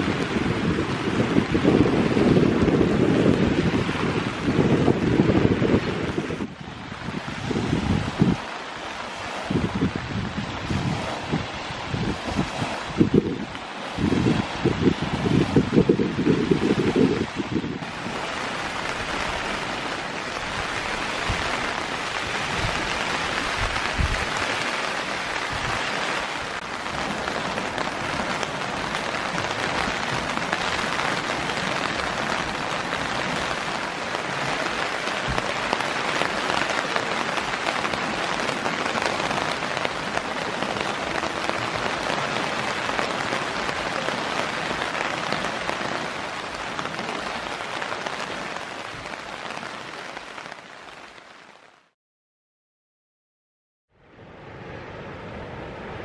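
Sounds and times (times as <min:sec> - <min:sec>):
heavy rain on tent fabric: 0:00.0 - 0:52.0.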